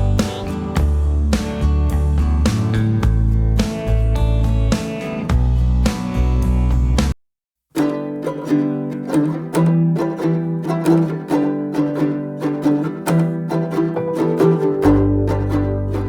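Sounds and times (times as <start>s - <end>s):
plucked string music: 0.0s - 7.1s, 7.7s - 16.0s.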